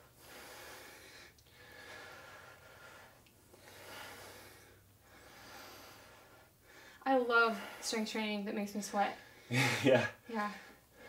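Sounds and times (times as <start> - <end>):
heavy breathing: 0.0 - 8.2, 8.9 - 11.0.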